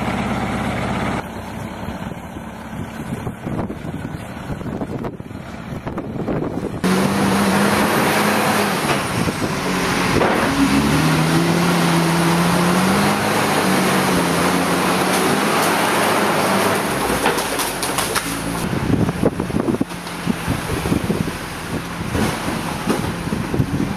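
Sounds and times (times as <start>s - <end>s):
diesel engine running under load: 0.0s - 23.9s
loader scraping manure slurry: 4.1s - 23.9s.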